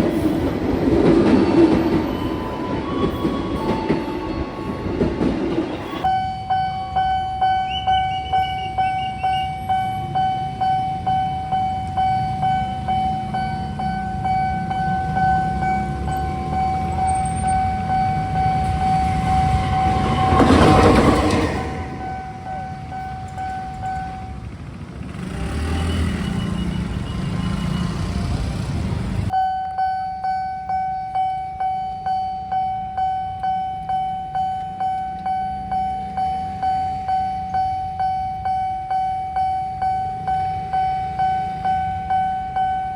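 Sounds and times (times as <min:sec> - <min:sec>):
level crossing alarm pulsing: 0:00.0 - 0:28.4, 0:29.3 - 0:42.9
train passing: 0:00.0 - 0:29.4, 0:31.2 - 0:42.9.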